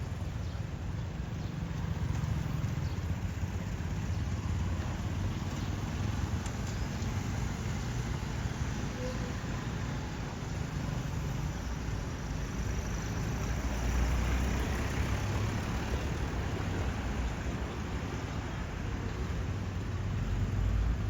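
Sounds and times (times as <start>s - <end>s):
street ambience: 0.0s - 21.0s
vehicle engine rumble: 0.0s - 21.0s.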